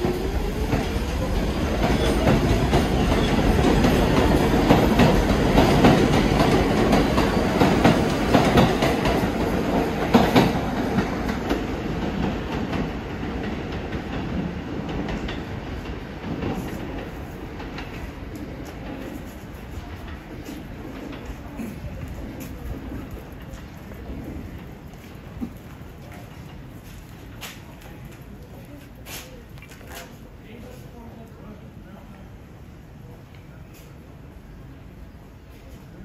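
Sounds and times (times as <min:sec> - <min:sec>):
subway wheels clattering: 0:00.0 - 0:36.0.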